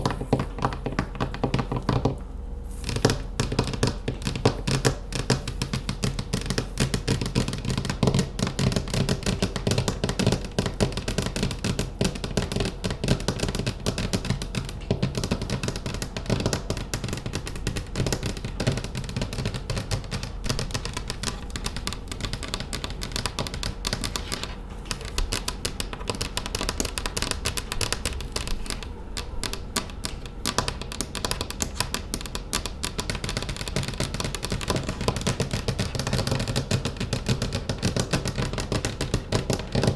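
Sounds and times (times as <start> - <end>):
fingernail tapping: 0.0 - 39.9.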